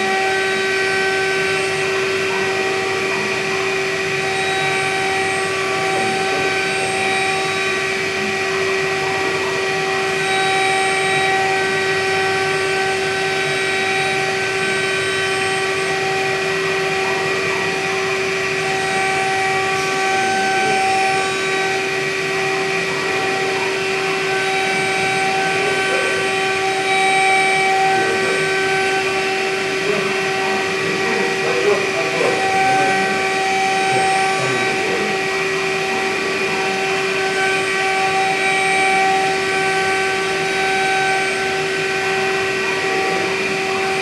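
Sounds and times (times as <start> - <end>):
milling spindle high whine: 0.0 - 44.0.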